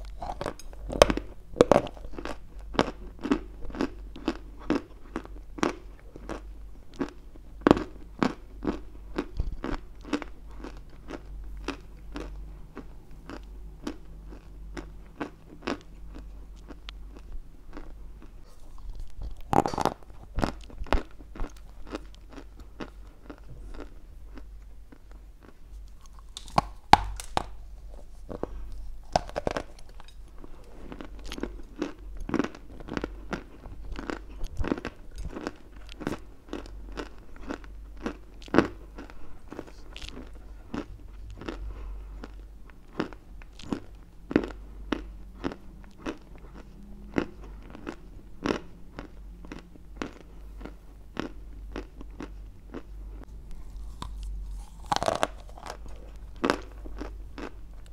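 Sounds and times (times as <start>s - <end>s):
chewing crunchy clay: 0.0s - 57.9s.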